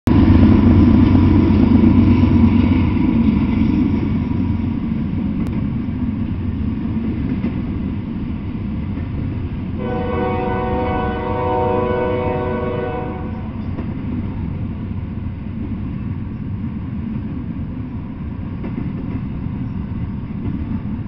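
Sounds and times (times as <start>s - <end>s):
freight train wheels on rails: 0.1s - 21.0s.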